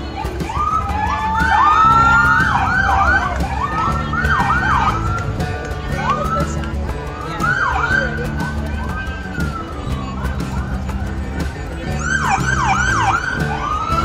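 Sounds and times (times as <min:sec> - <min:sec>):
vehicle sirens whooping: 0:00.0 - 0:10.3, 0:11.9 - 0:14.0.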